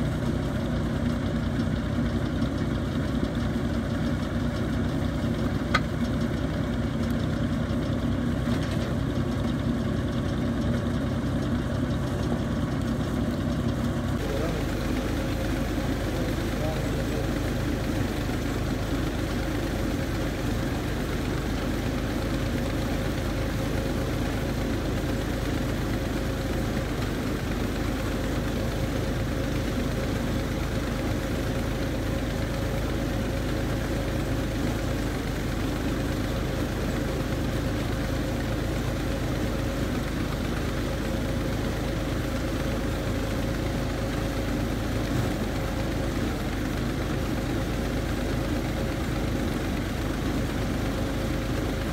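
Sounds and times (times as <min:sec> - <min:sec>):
constant hum: 0:00.0 - 0:51.9
drilling rig engine running: 0:00.0 - 0:51.9.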